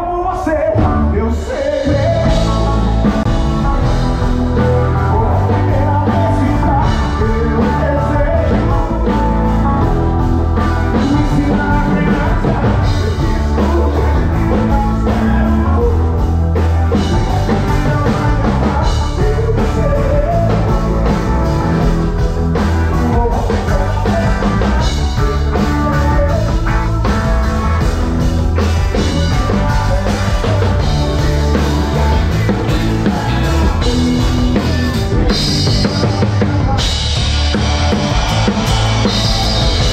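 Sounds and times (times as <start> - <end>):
person singing: 0.0 - 27.8, 28.6 - 39.9
bass guitar: 0.0 - 39.9
drums: 0.0 - 39.9.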